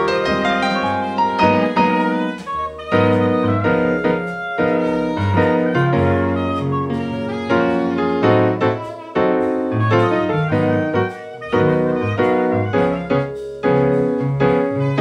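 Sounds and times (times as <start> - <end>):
piano: 0.0 - 15.0
saxophone melody: 0.0 - 15.0
upright double bass: 0.0 - 15.0.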